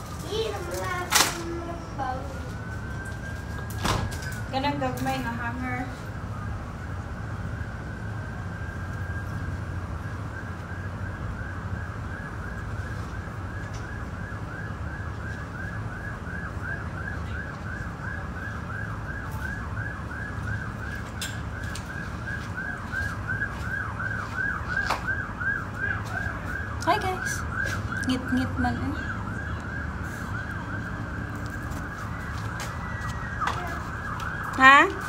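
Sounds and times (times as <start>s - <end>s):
distant siren wailing and yelping: 0.0s - 35.0s.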